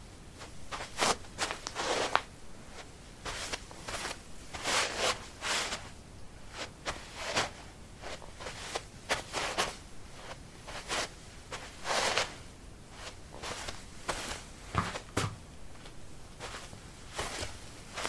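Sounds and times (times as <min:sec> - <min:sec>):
shoes scuffing on doormat: 0:00.4 - 0:05.9, 0:06.5 - 0:12.4, 0:13.0 - 0:18.0.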